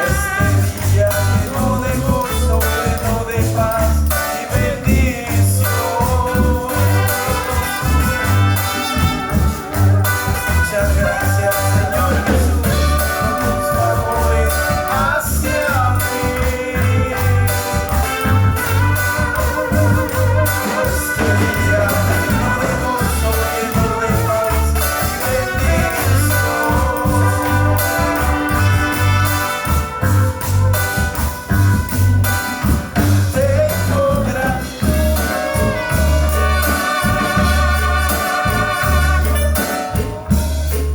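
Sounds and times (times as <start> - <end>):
music with heavy bass beat: 0.0 - 40.9.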